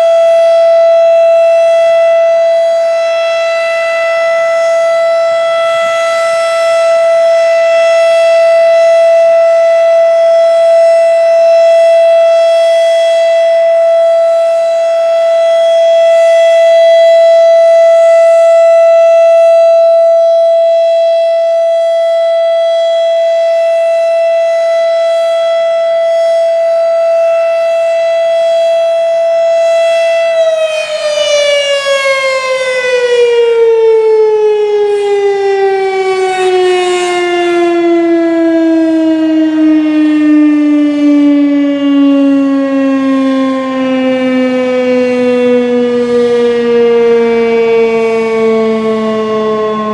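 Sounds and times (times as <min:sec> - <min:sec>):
warning siren steady tone: 0:00.0 - 0:49.9.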